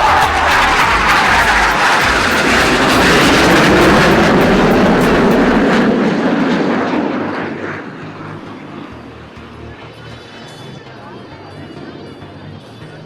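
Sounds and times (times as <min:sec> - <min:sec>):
jet aircraft roaring past: 0:00.0 - 0:13.0.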